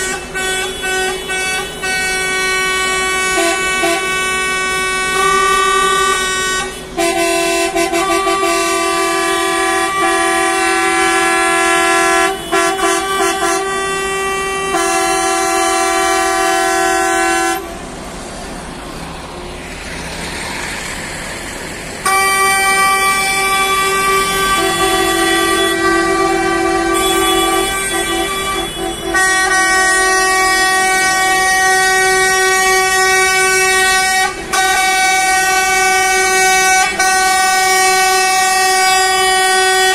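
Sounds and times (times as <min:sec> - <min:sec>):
bus horns blasting: 0:00.0 - 0:18.0, 0:21.9 - 0:39.9
engine and traffic noise: 0:00.0 - 0:39.9.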